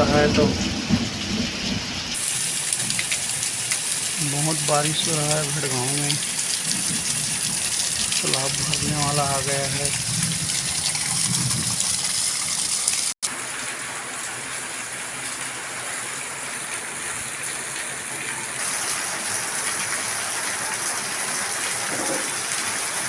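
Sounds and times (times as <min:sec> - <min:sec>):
heavy rain on water and ground: 0:00.0 - 0:23.0.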